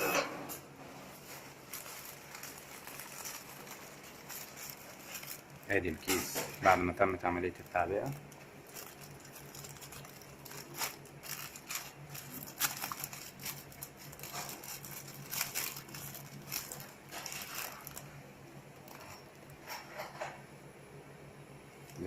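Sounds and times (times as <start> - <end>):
steady low hum: 0.0 - 22.0
plastic bag crinkling: 1.0 - 20.1.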